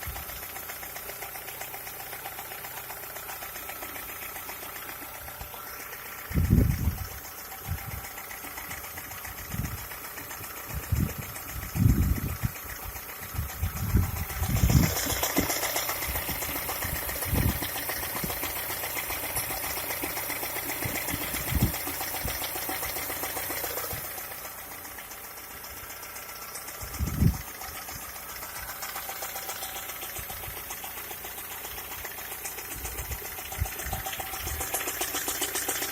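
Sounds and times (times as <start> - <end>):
engine knocking tick: 0.0 - 35.9.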